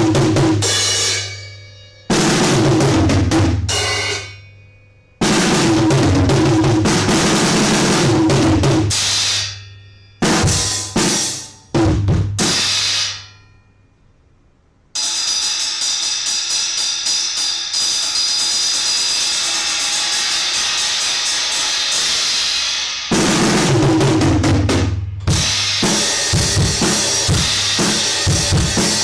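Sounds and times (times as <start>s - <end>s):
fast strokes on cymbal: 0.0s - 3.0s, 3.7s - 11.5s, 12.4s - 13.5s, 15.0s - 23.9s, 25.3s - 29.0s
drum kit playing: 0.0s - 4.5s, 5.2s - 9.6s, 10.2s - 13.3s, 15.0s - 29.0s
cymbal crashes ringing: 0.0s - 11.8s, 12.4s - 14.2s, 15.0s - 24.5s, 25.3s - 29.0s.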